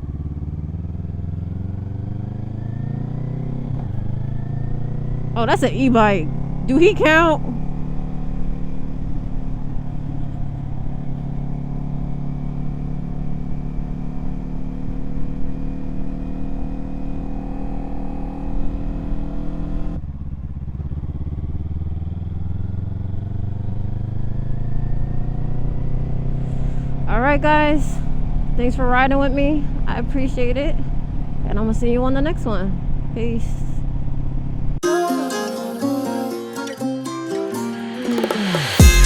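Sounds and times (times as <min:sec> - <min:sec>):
motorcycle engine running: 0:00.0 - 0:34.8, 0:38.6 - 0:39.0.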